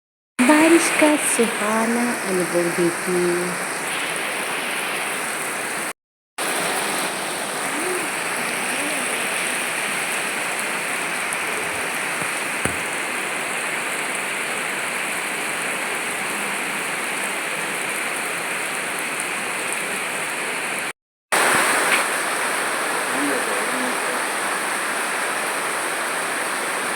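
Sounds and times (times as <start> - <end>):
steady rain falling: 0.4 - 26.9.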